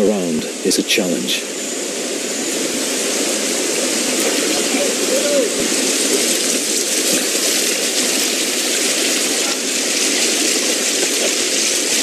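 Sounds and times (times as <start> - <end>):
river rushing over rocks: 1.5 - 12.0.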